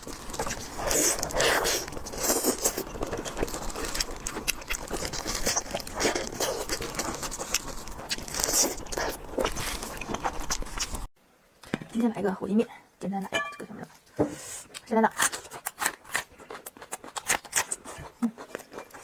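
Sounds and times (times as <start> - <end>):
crunchy chewing: 0.0 - 11.1, 14.7 - 19.0.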